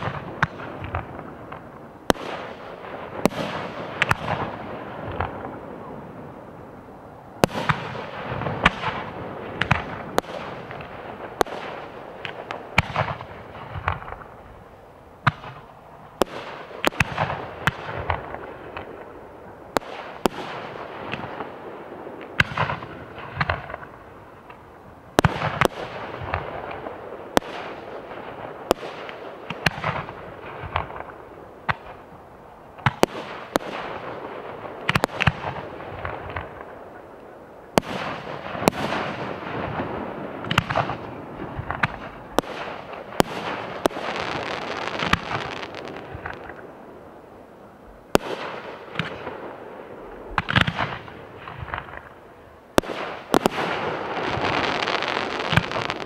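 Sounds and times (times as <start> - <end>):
fireworks booming: 0.0 - 6.6, 7.4 - 14.4, 15.2 - 37.1, 37.7 - 47.3, 47.9 - 56.0.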